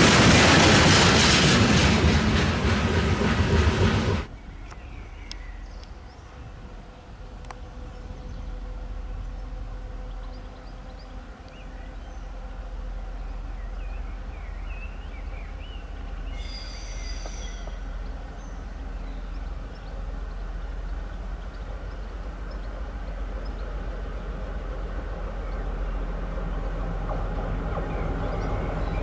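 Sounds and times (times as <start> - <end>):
diesel locomotive engine rumble: 0.0 - 29.0.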